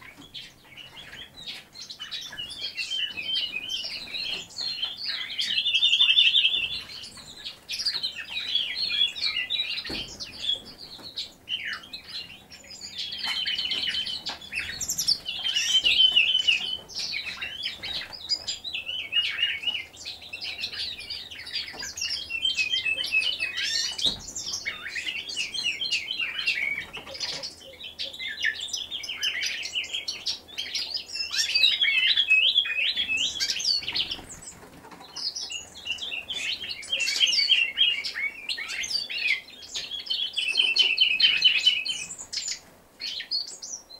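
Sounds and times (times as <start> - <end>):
songbird chirping and trilling: 0.0 - 43.9.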